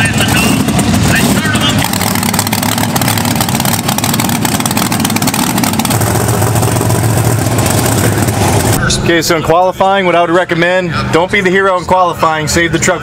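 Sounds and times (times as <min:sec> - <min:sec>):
monster truck engines running: 0:00.0 - 0:13.0.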